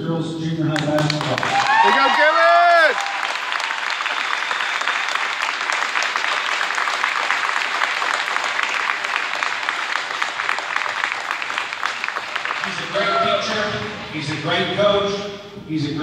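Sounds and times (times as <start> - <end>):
audience applause: 0.8 - 14.5.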